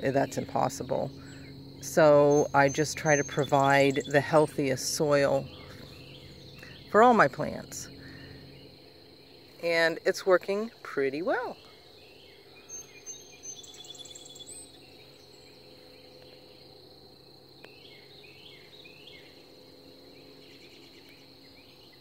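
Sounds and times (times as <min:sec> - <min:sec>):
birds calling: 0:00.0 - 0:16.8, 0:17.6 - 0:22.0
high insect trill: 0:00.0 - 0:22.0.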